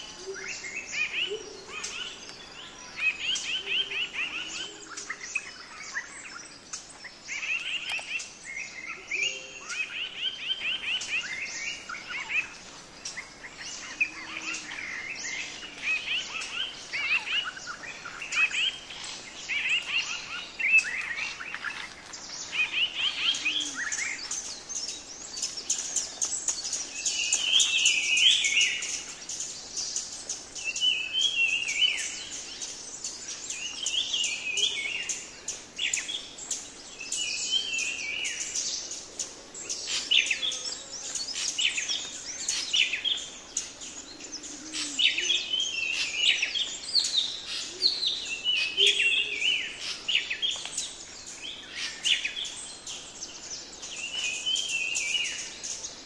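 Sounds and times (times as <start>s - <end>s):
birds chirping and trilling: 0.0s - 56.0s
faint high hiss: 0.0s - 56.0s.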